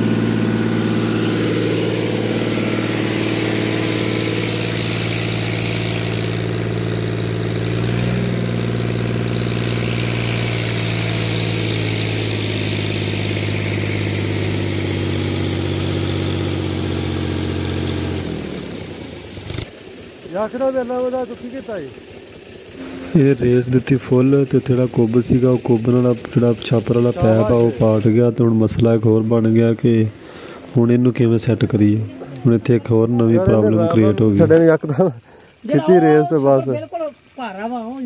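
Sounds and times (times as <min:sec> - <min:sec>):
water gushing from pipe: 0:00.0 - 0:19.5, 0:21.3 - 0:32.0, 0:33.3 - 0:38.0
tractor diesel engine running: 0:00.0 - 0:38.0.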